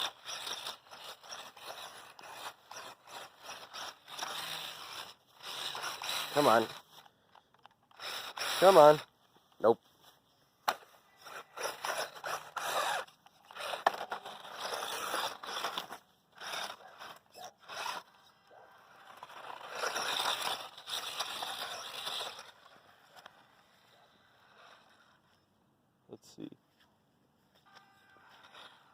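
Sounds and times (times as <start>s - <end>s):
rc truck tires scraping dirt: 0.0s - 25.5s, 26.8s - 28.9s.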